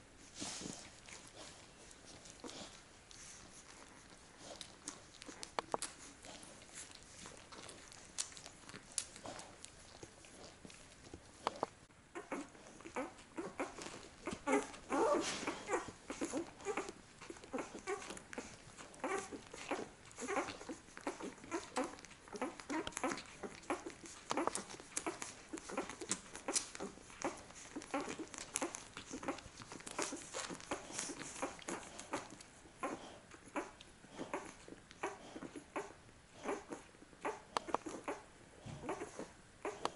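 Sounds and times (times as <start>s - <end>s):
puppies squeaking and grunting: 0.0s - 39.9s.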